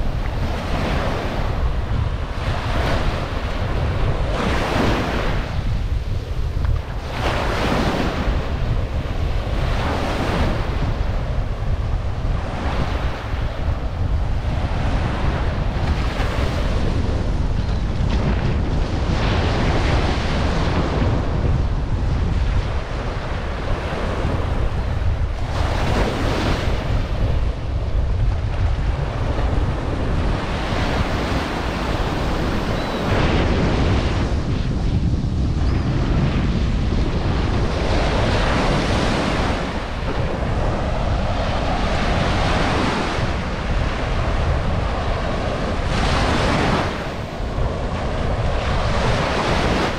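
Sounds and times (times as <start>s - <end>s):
ocean surf washing onto beach: 0.0s - 49.9s
wind buffeting microphone: 0.0s - 49.9s.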